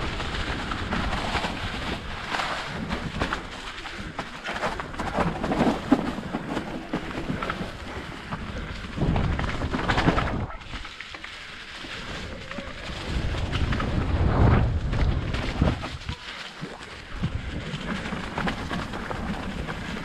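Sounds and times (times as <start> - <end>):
bike rattling over rough ground: 0.0 - 20.0
bike tyres crackling through leaves: 0.0 - 20.0
wind rumble on microphone: 0.0 - 20.0.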